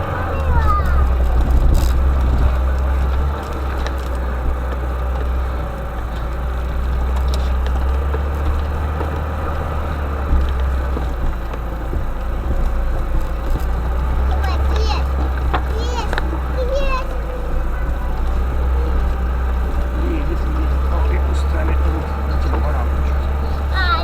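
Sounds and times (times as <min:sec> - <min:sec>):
knocks and rattles: 0:00.0 - 0:24.0
vehicle engine drone: 0:00.0 - 0:24.0.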